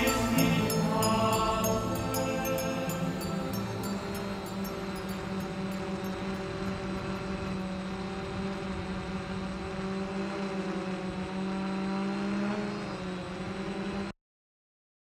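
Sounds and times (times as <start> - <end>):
drone propellers buzzing: 0.0 - 14.1.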